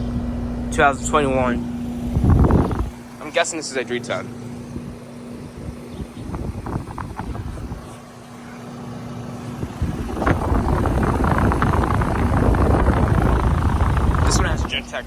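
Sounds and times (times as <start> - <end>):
air conditioner hum: 0.0 - 15.0
condenser fan air rush: 0.0 - 15.0.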